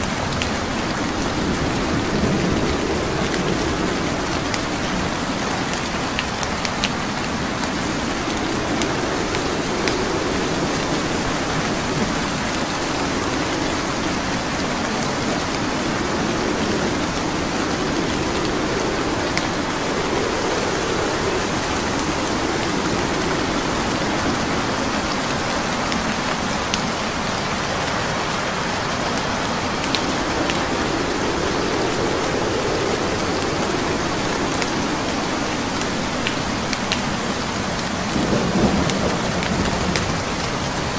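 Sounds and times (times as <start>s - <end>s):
steady rain hissing: 0.0s - 40.9s
wood fire crackling: 0.0s - 40.9s.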